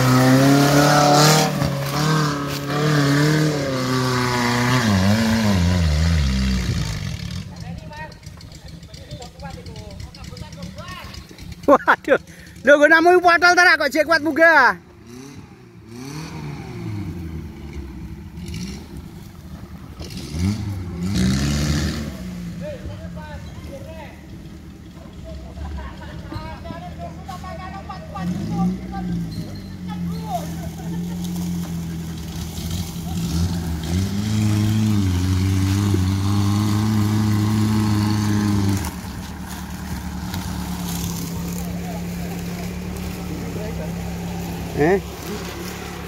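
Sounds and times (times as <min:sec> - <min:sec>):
off-road vehicle engine revving: 0:00.0 - 0:46.0.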